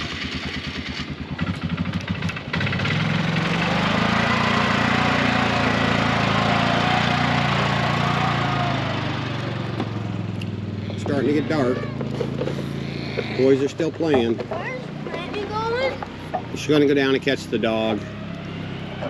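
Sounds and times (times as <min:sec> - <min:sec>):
atv engine putting along: 0:00.0 - 0:19.0.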